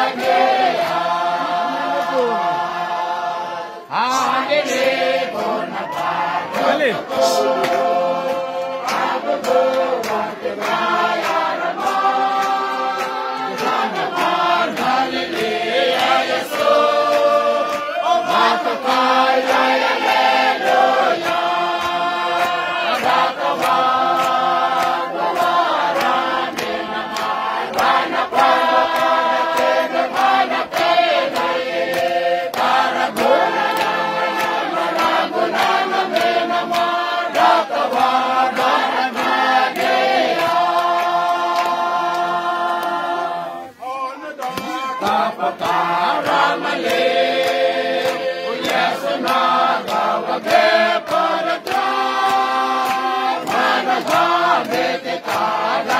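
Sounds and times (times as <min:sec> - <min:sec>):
mixed choir singing in harmony: 0:00.0 - 0:43.8, 0:44.5 - 0:55.9
rhythmic taps or claps: 0:00.0 - 0:55.9.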